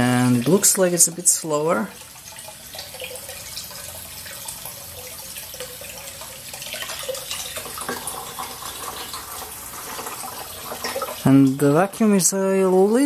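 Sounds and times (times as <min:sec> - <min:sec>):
rushing water pump: 0:00.0 - 0:12.0.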